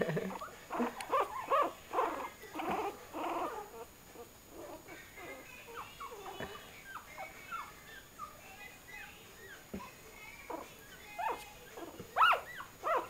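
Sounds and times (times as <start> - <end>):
puppy squeaking and whimpering: 0.3 - 9.6, 10.4 - 13.0.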